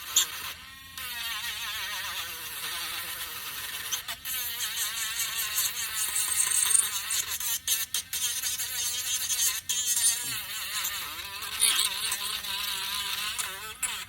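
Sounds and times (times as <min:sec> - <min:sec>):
electric sander on wood: 0:00.0 - 0:14.0.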